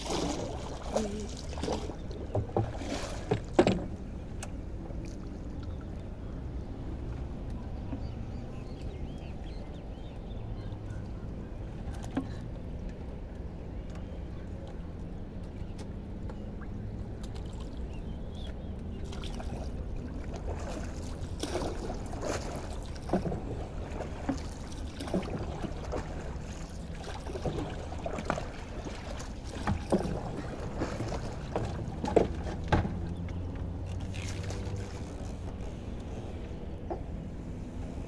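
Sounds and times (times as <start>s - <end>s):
water splashing and sloshing: 0.0s - 38.0s.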